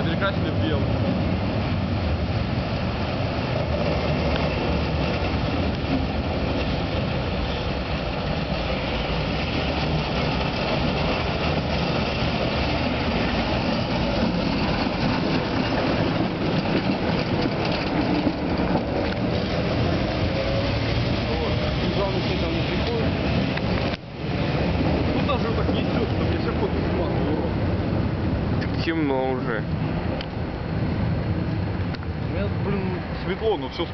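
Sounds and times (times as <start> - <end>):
tram wheels rumbling on rails: 0.0 - 33.9.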